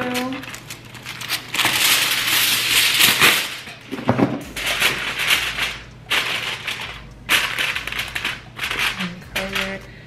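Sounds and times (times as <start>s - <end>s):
aluminium foil crinkling: 0.0s - 9.9s.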